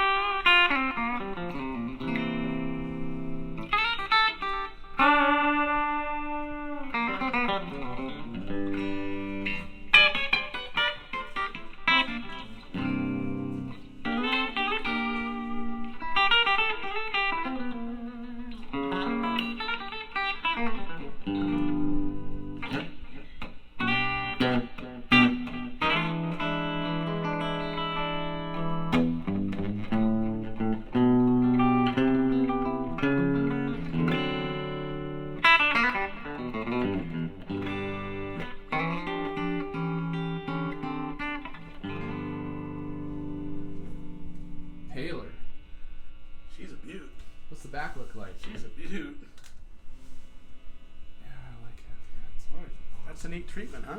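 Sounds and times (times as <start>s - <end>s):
electric guitar country riffs: 0.0s - 47.5s.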